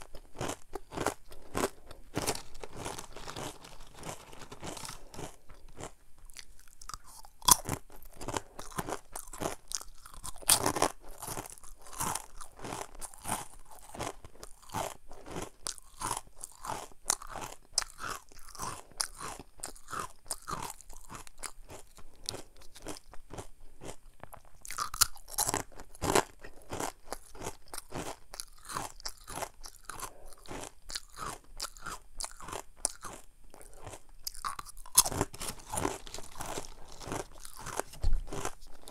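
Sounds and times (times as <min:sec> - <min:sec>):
person crunching crisp snacks: 0:00.0 - 0:38.9.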